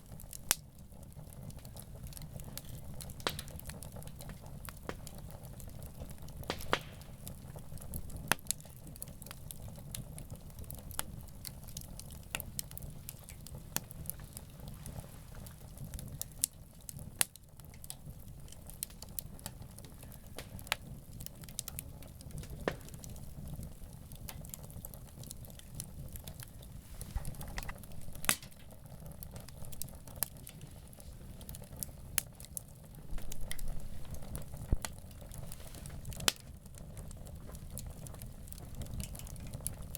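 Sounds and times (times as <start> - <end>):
campfire crackling and popping: 0.0 - 39.9
low fire rumble: 0.0 - 39.9.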